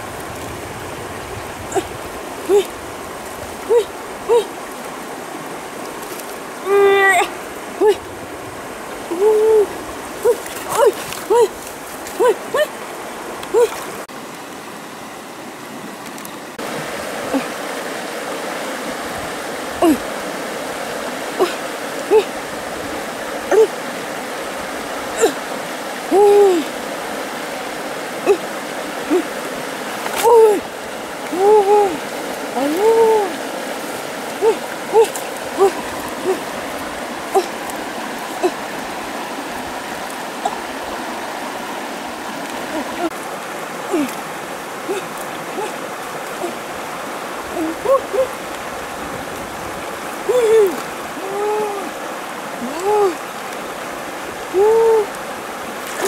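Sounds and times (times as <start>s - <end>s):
flowing stream water: 0.0s - 56.0s.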